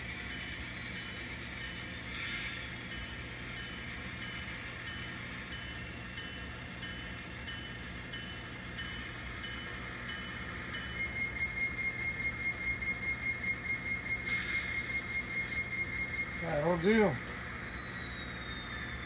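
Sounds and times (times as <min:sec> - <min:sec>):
model locomotive engine sound: 0:00.0 - 0:19.0.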